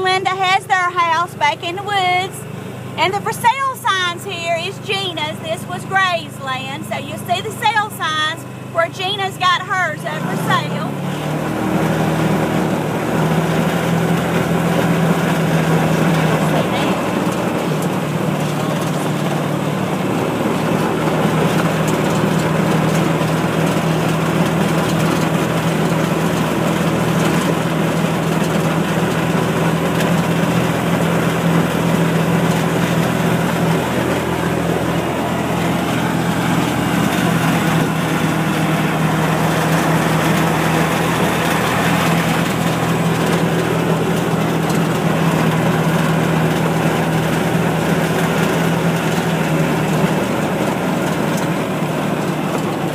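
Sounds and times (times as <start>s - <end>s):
road and mechanical noise: 0.0s - 52.9s
small vehicle engine running: 0.0s - 52.9s.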